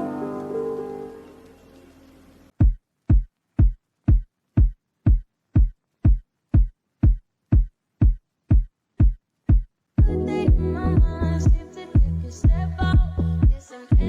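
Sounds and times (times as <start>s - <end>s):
electronic kick drum beating: 2.6s - 14.0s.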